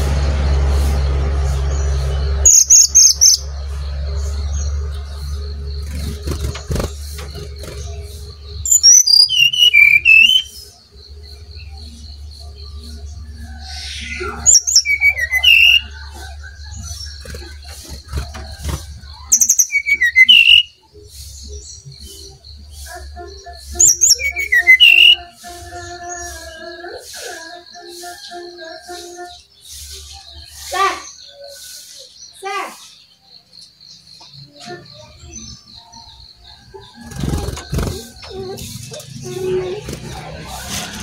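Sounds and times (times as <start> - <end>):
bird whistling song: 1.0 - 41.0.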